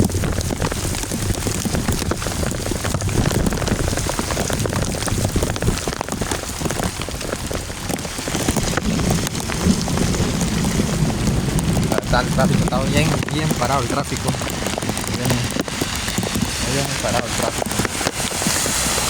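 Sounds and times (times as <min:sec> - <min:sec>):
heavy rain hissing: 0:00.0 - 0:19.0
raindrops ticking close by: 0:00.0 - 0:19.0.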